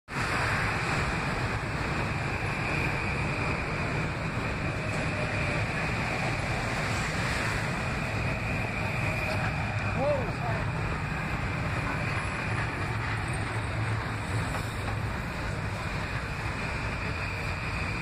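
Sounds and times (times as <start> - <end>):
high whine of train: 0.1 - 18.0
train wheels rushing: 0.1 - 18.0.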